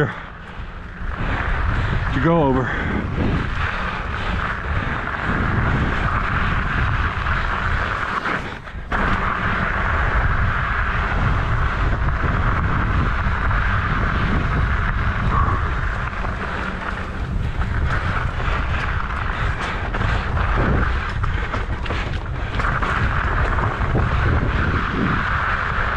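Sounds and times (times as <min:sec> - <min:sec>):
bike tyres rolling on rocky trail: 0:00.0 - 0:25.9
wind buffeting microphone: 0:00.0 - 0:25.9.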